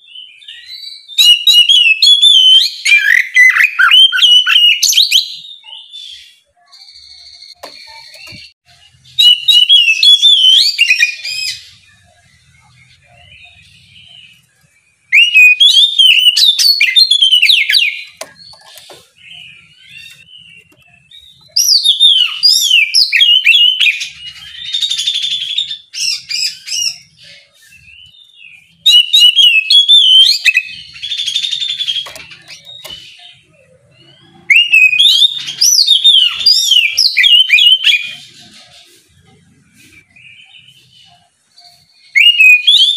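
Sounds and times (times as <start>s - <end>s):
bird singing whistled song: 0.0s - 39.0s, 39.8s - 42.9s.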